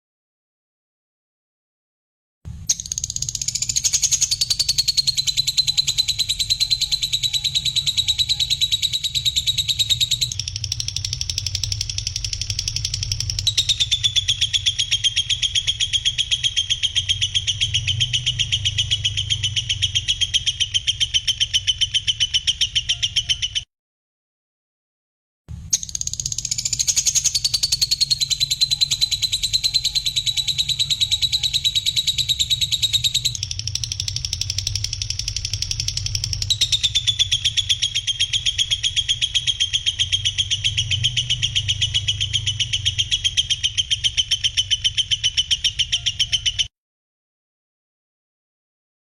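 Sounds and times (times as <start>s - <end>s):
songbird rattling trill: 2.6s - 23.6s, 25.7s - 46.7s.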